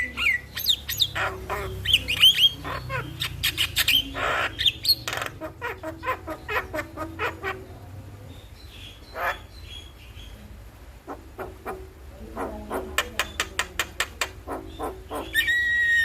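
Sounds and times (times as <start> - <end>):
myna chattering: 0.0 - 16.0.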